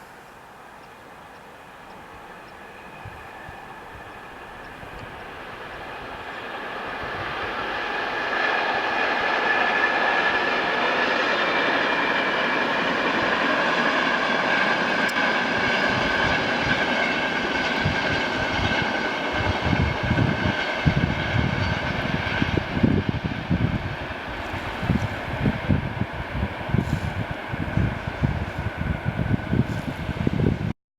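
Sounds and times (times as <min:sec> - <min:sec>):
train rolling past: 0:00.0 - 0:30.7
wind buffeting microphone: 0:02.9 - 0:10.4, 0:11.8 - 0:30.8.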